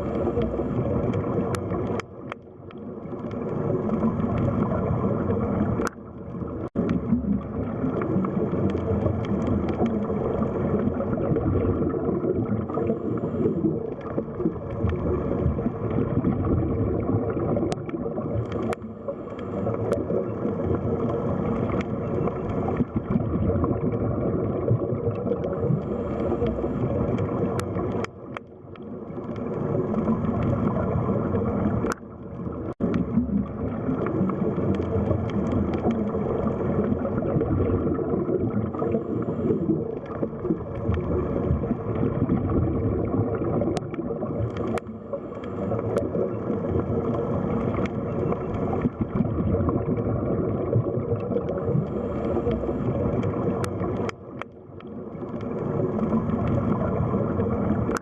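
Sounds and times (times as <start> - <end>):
muffled underwater water rush: 0.0 - 58.0.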